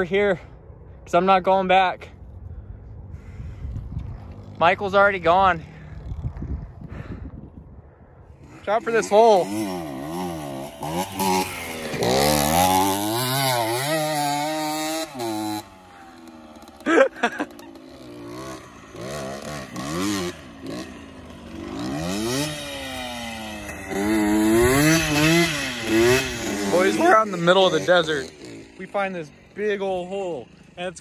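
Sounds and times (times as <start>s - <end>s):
pit bike engines revving: 0.0s - 7.1s, 8.3s - 31.0s.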